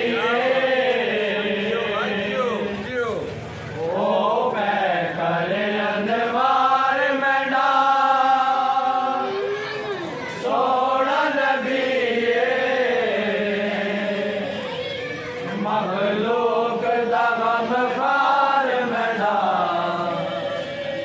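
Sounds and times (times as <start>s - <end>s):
men chanting: 0.0s - 9.6s, 10.2s - 14.8s, 15.4s - 21.0s.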